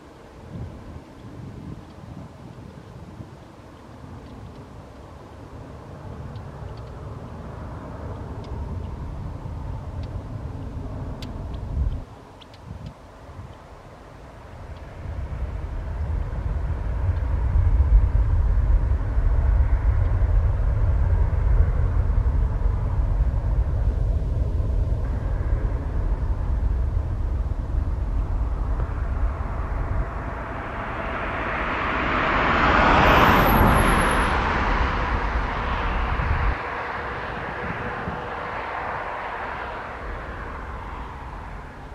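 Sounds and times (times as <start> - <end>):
jet engines at takeoff power: 0.0 - 12.6, 13.2 - 41.9.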